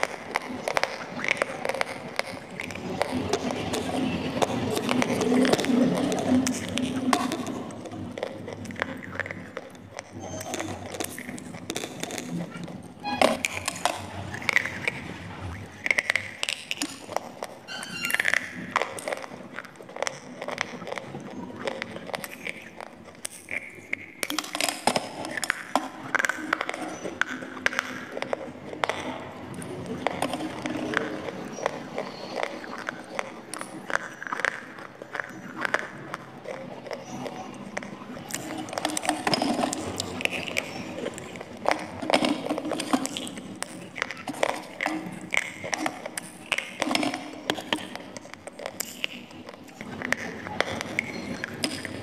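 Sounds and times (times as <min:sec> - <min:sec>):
dry clay being bitten and chewed: 0:00.0 - 0:52.0
wet mouth sounds: 0:00.0 - 0:52.0.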